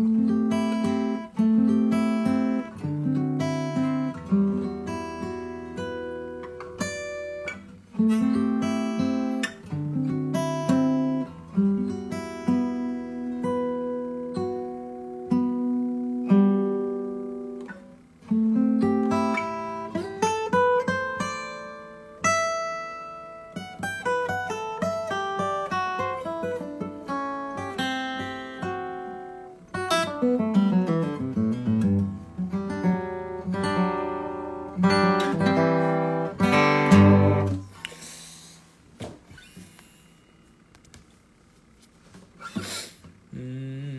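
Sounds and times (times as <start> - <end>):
fingerpicked acoustic guitar: 0.0 - 43.9.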